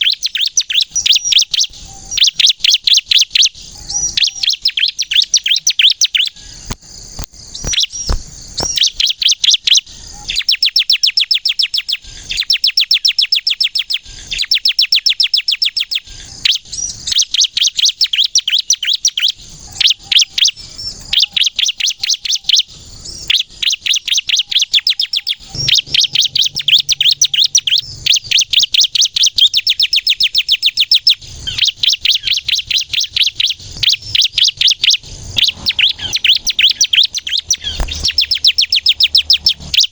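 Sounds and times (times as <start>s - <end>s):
bird singing rattling trills: 0.0s - 39.9s.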